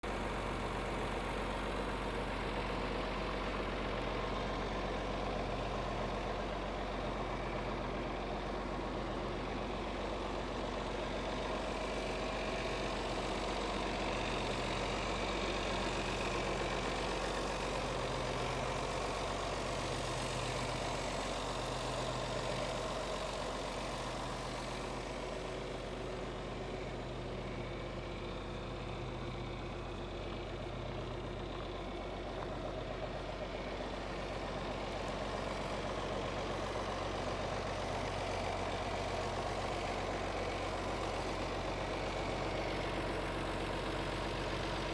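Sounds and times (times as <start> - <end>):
diesel tractor engine idling: 0.0 - 44.9.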